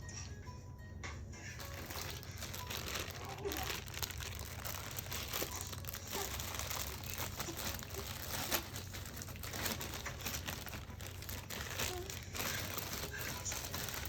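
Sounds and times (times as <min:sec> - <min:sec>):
low steady hum: 0:00.0 - 0:14.0
crackling and rustling: 0:01.5 - 0:14.0.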